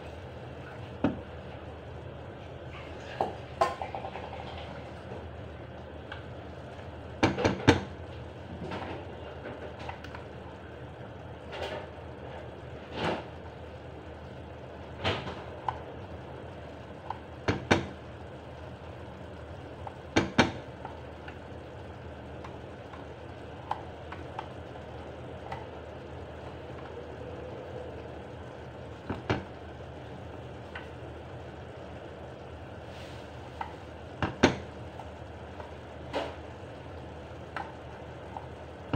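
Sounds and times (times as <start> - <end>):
steady background noise: 0.0 - 38.9.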